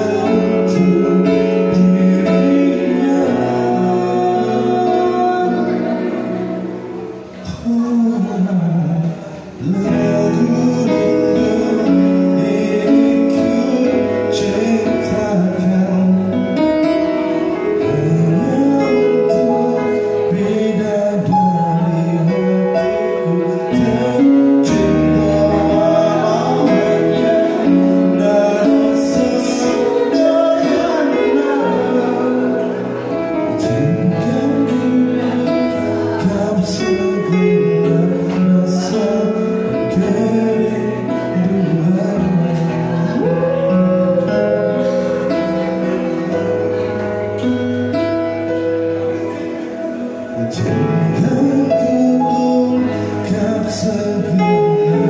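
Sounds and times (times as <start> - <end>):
man and woman singing duet: 0.0 - 46.9, 49.2 - 55.0
instrumental accompaniment: 0.0 - 55.0.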